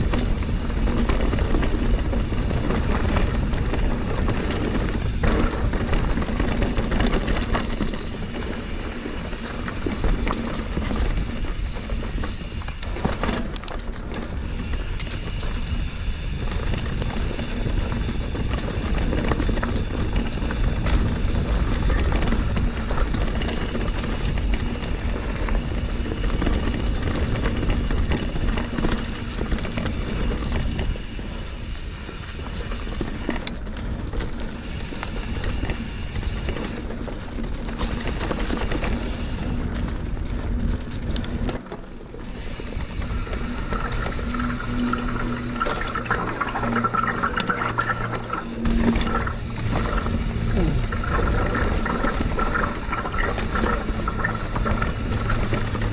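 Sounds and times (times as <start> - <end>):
bike tyres rumbling on rocks: 0.0 - 55.9
wind noise on microphone: 0.0 - 55.9.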